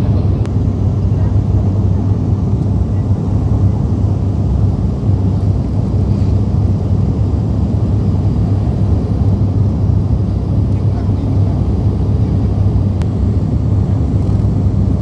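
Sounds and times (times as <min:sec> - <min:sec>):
turboprop plane droning in flight: 0:00.0 - 0:15.0.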